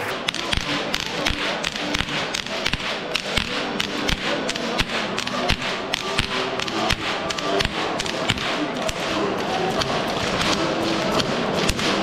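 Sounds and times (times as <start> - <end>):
faint music: 0.0 - 12.0
whips cracking: 0.0 - 12.0.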